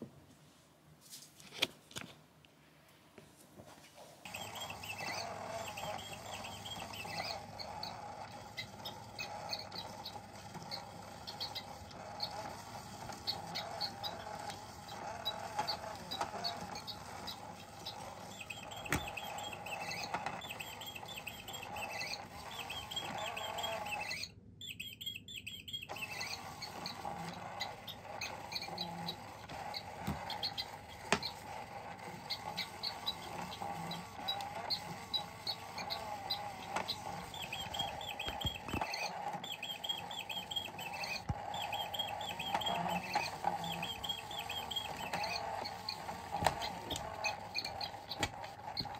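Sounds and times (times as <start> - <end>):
electronic chirps and squeaks: 4.2 - 48.9
small motor whirring: 4.2 - 48.9.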